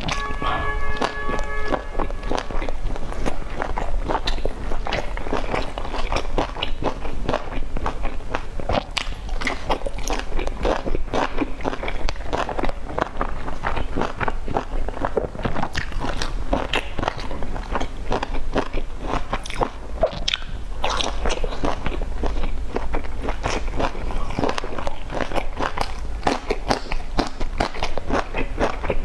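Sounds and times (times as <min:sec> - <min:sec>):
chewing with wet smacks: 0:00.9 - 0:29.0.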